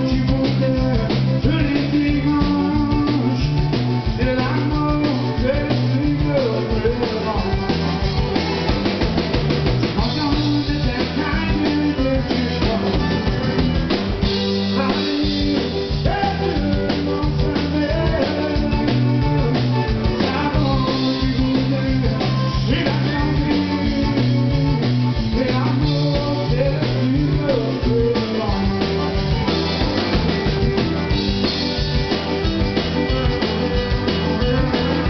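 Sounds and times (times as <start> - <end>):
button accordion: 0.0 - 35.0
drum kit steady beat: 0.0 - 35.0
fiddle: 0.0 - 35.0
guitar: 0.0 - 35.0.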